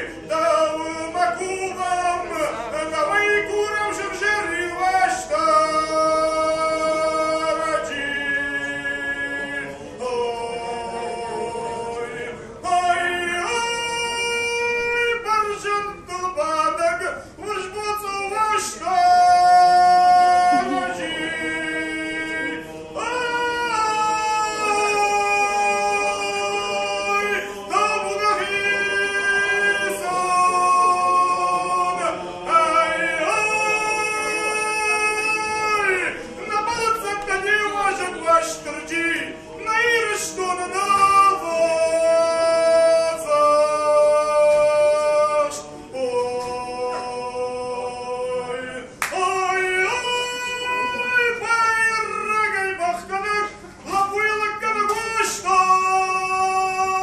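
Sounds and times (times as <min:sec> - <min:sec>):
men singing unaccompanied: 0:00.0 - 0:57.0.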